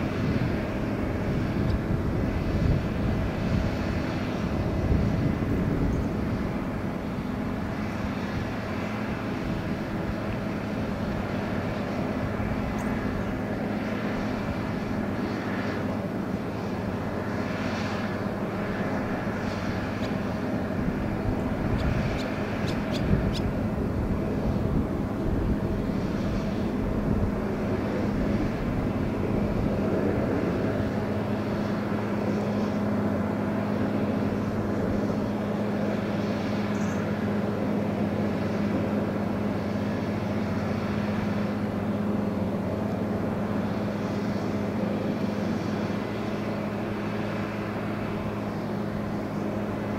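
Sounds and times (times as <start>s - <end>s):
engine droning: 0.0s - 49.9s.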